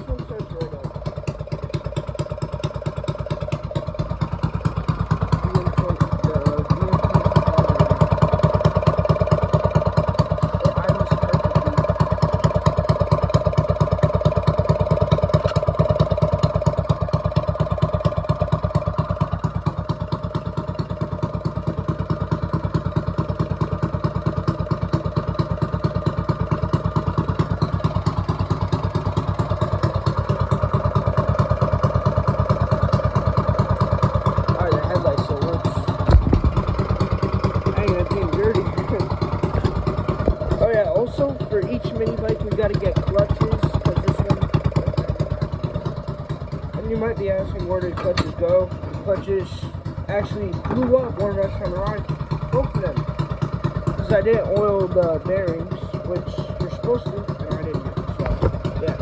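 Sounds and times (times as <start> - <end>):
mini bike engine running: 0.0 - 59.0.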